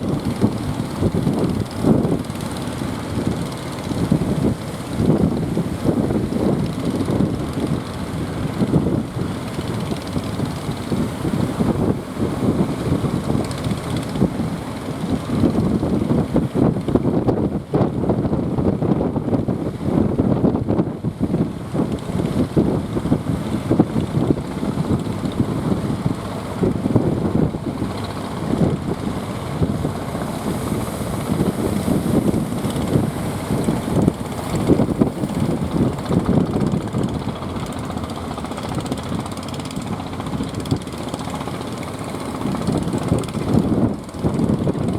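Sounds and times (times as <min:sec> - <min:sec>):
motorboat engine running: 0:00.0 - 0:44.9
wind buffeting microphone: 0:00.0 - 0:44.9.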